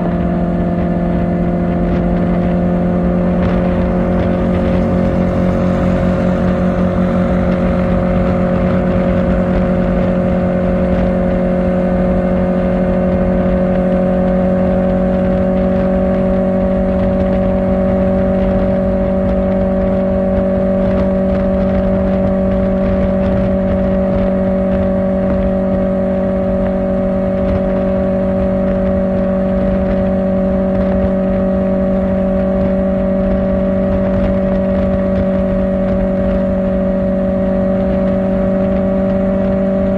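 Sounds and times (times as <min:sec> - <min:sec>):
motorcycle engine cruising: 0:00.2 - 0:39.9.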